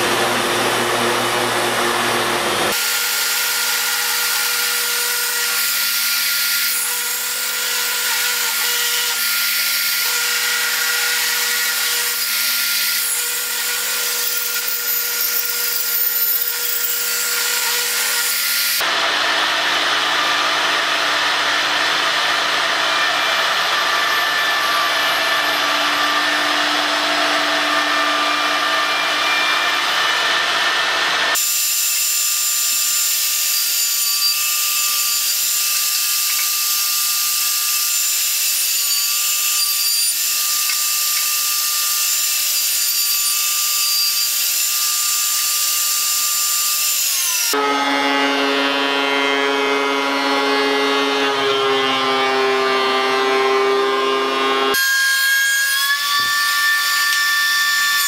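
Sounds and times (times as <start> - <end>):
power tool cutting wood: 0.0 - 58.0
table saw cutting board: 0.0 - 58.0.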